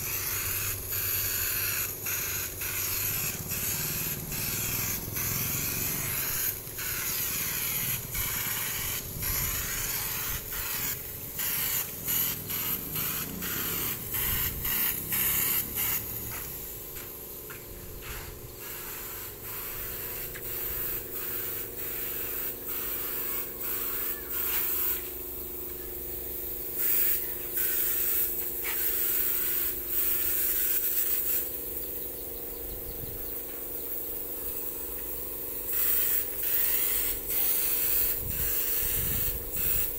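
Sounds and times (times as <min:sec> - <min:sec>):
air compressor humming: 0:00.0 - 0:39.9
paint spray gun hissing: 0:00.0 - 0:39.9.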